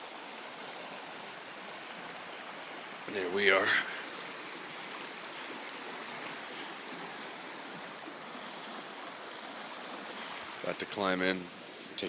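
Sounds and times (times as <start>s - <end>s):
mountain creek rushing: 0.0s - 12.0s.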